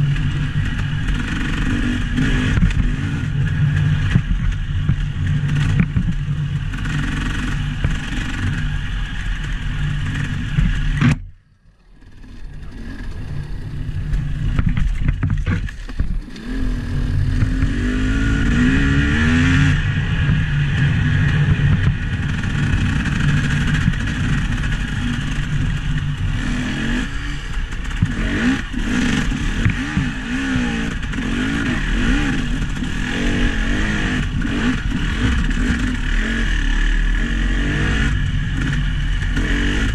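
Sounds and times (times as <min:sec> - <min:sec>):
vehicle engine revving: 0:00.0 - 0:11.2, 0:11.9 - 0:39.9.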